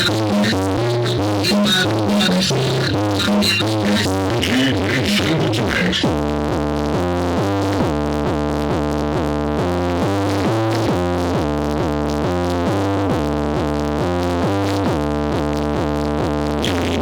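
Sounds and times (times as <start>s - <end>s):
funk music through car speakers: 0.0s - 17.0s.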